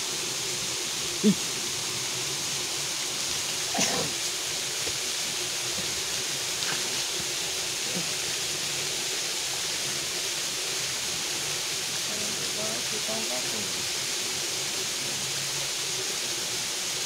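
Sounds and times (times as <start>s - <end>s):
hiss of water: 0.0s - 17.0s.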